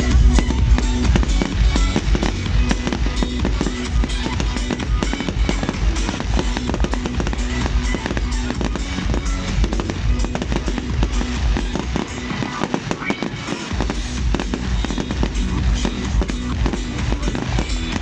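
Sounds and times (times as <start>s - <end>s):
fireworks bangs and crackles: 0.0s - 18.0s
music over loudspeakers: 0.0s - 18.0s.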